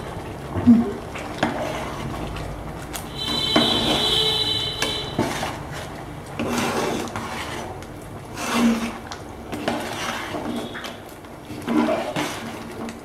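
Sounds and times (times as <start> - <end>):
metal spoon stirring thick dal: 1.2 - 13.0.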